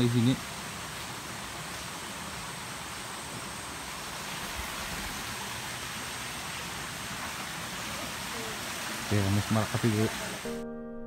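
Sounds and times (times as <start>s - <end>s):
stream running over rocks: 0.0s - 10.5s.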